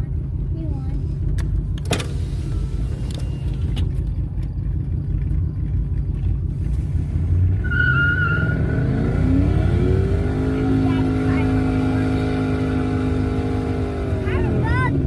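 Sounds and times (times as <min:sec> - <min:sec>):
car engine idling: 0:00.0 - 0:08.4, 0:09.5 - 0:15.0.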